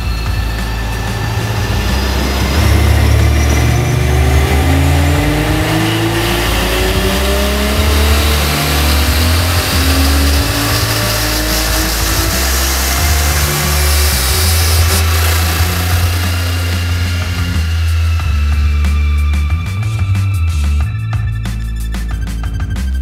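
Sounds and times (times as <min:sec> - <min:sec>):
supercharged engine revving up: 0:00.0 - 0:20.0.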